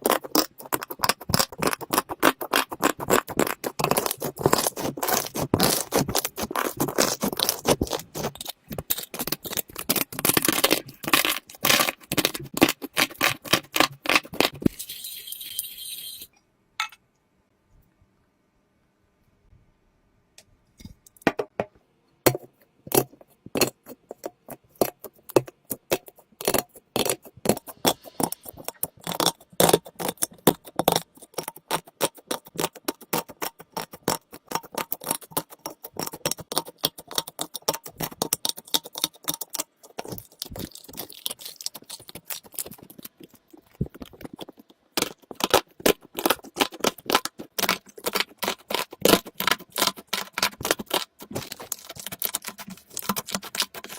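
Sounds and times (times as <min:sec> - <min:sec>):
slime clicking and crackling: 0:00.0 - 0:14.7, 0:22.9 - 0:53.9.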